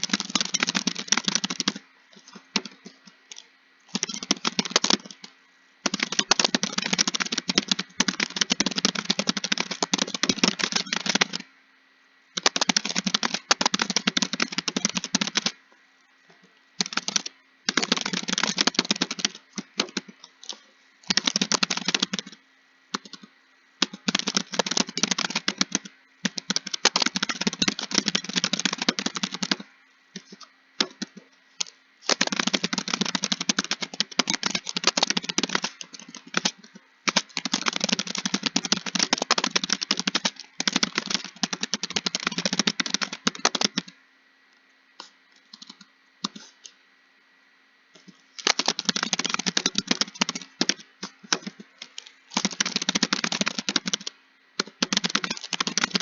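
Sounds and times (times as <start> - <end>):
computer keyboard typing: 0.0 - 11.5, 12.4 - 15.6, 16.8 - 44.0, 45.5 - 46.6, 48.4 - 56.0.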